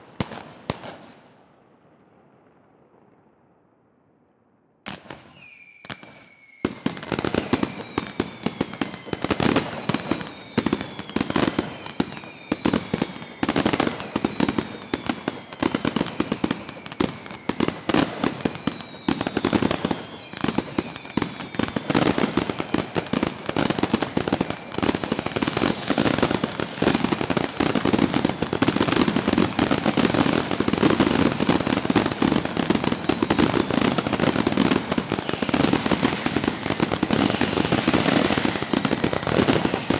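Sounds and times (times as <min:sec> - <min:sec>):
fireworks crackling and popping: 0:00.0 - 0:03.4, 0:04.8 - 0:39.9
falling firework whistles: 0:04.9 - 0:39.9.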